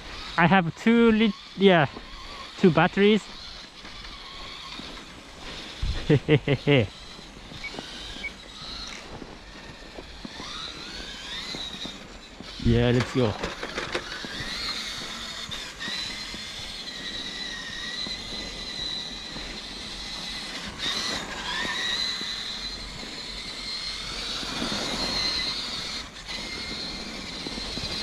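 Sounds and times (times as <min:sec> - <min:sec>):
toy truck electric motor whine: 0:00.0 - 0:28.0.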